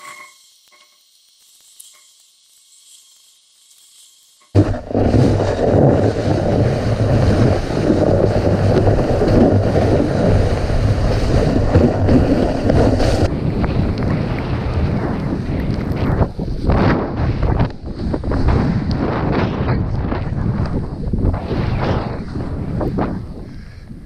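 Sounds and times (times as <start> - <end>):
wind rushing over microphone: 4.6 - 24.0.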